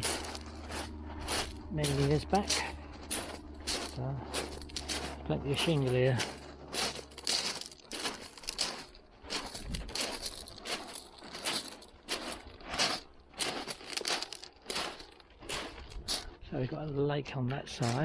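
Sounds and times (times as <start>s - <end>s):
footsteps crunching on shingle: 0.0s - 18.0s.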